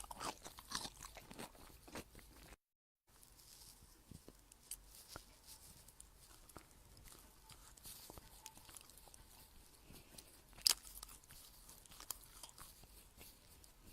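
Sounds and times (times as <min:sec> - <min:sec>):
chewing crunchy food: 0:00.0 - 0:13.9.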